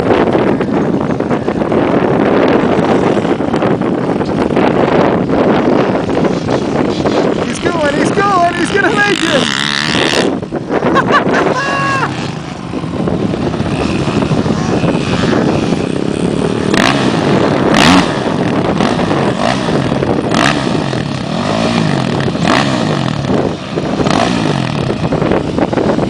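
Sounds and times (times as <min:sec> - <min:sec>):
dirt bike and atv engines revving: 0:00.0 - 0:26.0.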